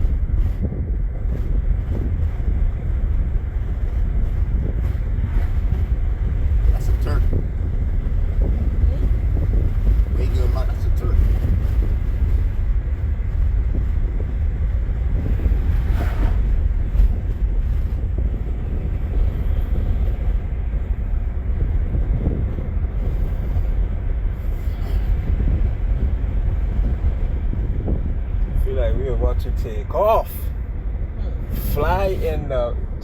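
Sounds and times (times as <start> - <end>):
wind and road noise in car: 0.0 - 33.0
wind buffeting microphone: 0.0 - 33.0.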